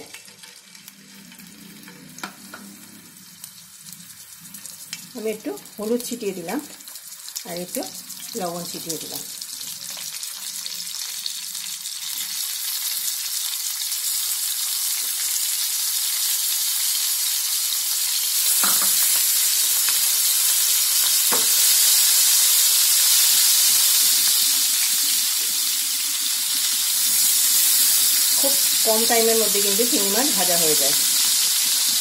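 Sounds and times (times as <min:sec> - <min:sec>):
prawns sizzling in oil: 0:00.0 - 0:32.0.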